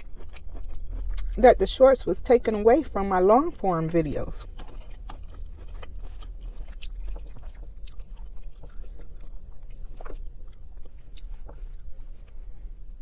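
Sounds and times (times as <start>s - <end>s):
person chewing food: 0.0s - 1.6s, 3.6s - 12.8s.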